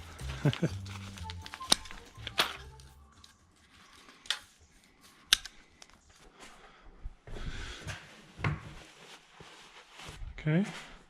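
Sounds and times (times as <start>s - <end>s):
rustling: 0.0s - 6.8s, 7.6s - 11.0s.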